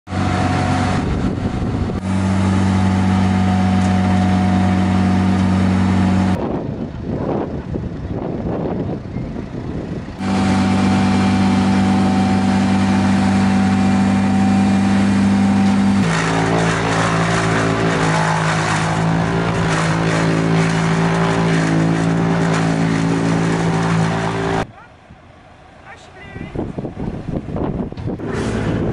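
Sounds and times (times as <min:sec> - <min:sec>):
wood chipper shredding trees: 0:00.1 - 0:24.8, 0:25.8 - 0:28.9
tractor diesel engine running: 0:00.1 - 0:28.9.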